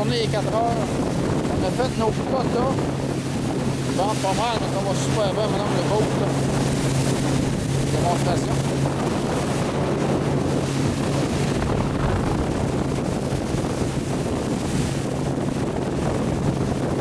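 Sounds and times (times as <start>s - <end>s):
motorboat engine drone: 0.0s - 17.0s
wind buffeting microphone: 0.0s - 17.0s
water splashing off bow: 0.3s - 17.0s.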